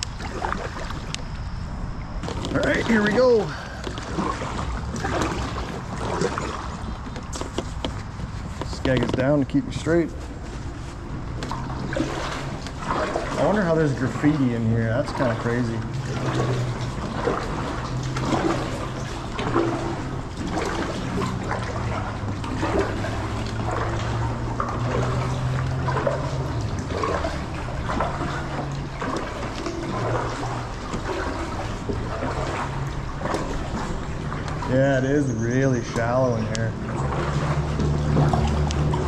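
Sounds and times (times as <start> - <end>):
steady low hum: 0.0 - 39.0
water splashing and gurgling: 0.0 - 39.0.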